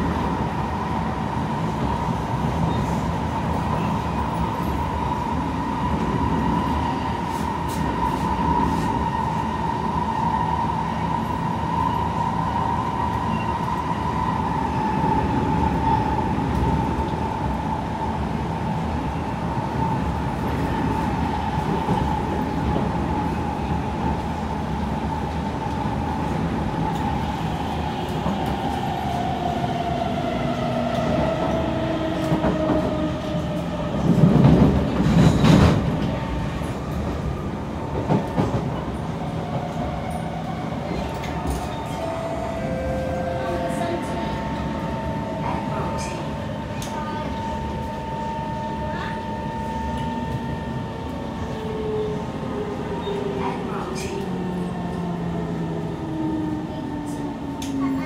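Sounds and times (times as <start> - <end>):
train rumble: 0.0 - 58.0.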